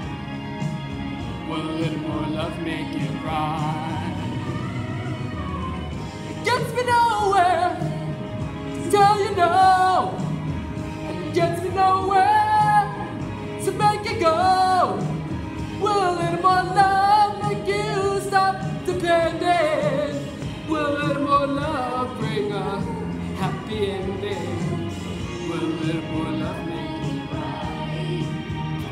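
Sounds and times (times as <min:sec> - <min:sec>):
backing music: 0:00.0 - 0:28.9
solo voice singing with vibrato: 0:01.4 - 0:28.9.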